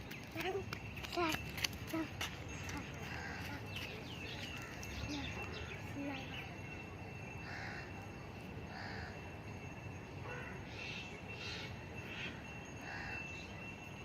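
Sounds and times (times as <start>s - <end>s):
thin steady high tone: 0.0s - 14.0s.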